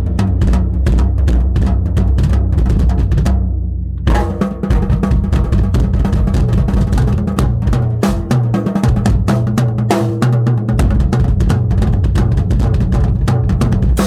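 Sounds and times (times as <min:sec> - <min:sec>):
bass drum: 0:00.0 - 0:14.0.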